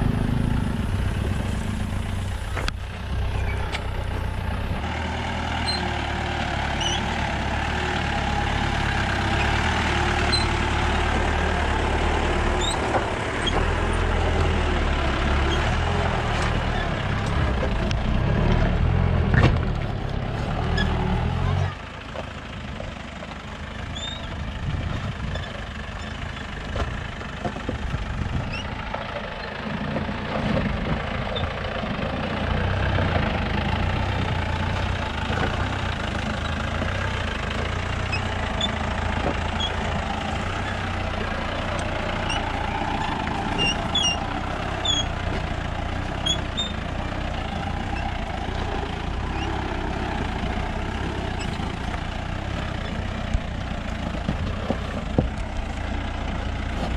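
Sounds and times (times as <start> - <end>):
vehicle engine running low: 0.0 - 56.9.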